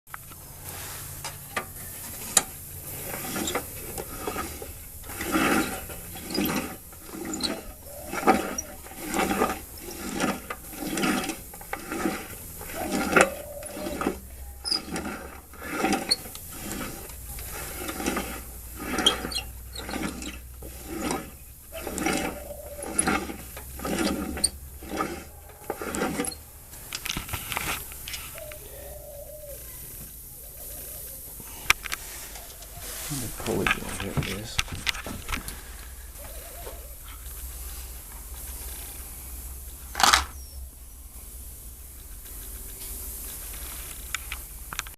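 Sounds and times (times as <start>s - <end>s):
pulley bearing grinding and scraping: 0.1s - 30.0s, 31.7s - 40.4s, 42.1s - 44.9s.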